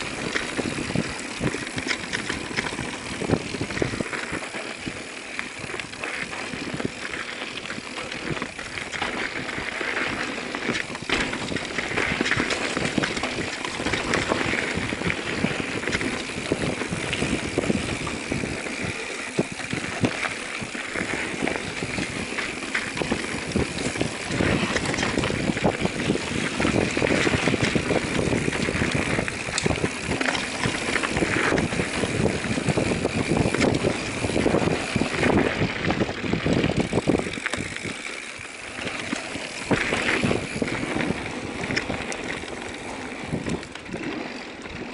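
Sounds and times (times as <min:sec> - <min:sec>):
bike rattling and clicking: 0:00.0 - 0:44.9
bike tyres on dirt: 0:00.0 - 0:44.9.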